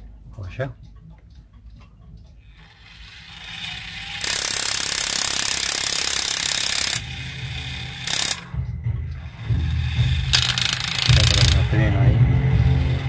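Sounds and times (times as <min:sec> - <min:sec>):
gramophone gears rattling: 0:02.5 - 0:13.0.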